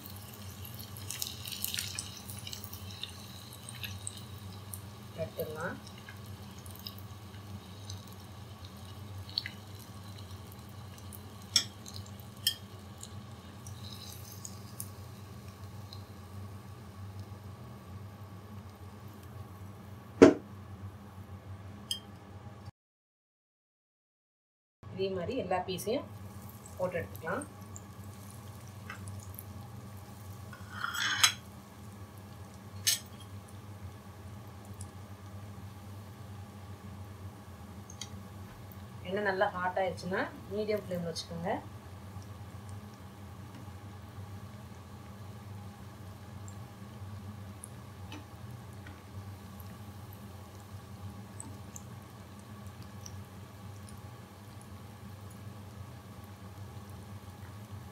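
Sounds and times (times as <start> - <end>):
hot oil bubbling and sizzling: 0.0 - 21.3, 25.5 - 57.9.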